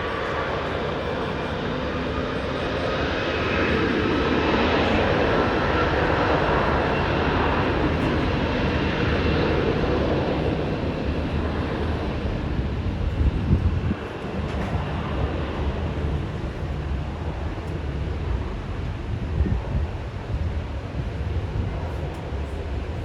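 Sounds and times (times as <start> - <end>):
faint engine whine: 0.0 - 23.0
jet engine roar: 0.0 - 23.0.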